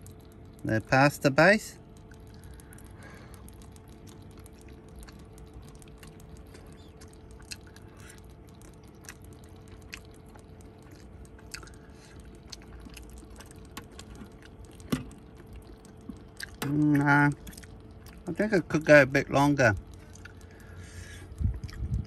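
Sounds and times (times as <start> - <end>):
soft squelches: 0.0 - 22.0
steady low hum: 0.0 - 22.0.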